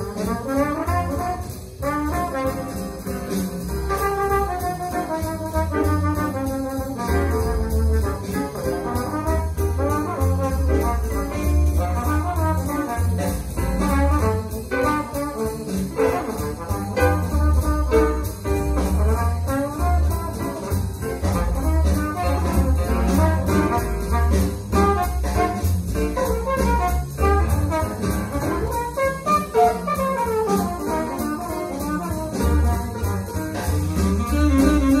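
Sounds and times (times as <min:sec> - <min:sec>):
brass-led jazz over loudspeakers: 0:00.0 - 0:35.0
deep bass line: 0:00.0 - 0:35.0.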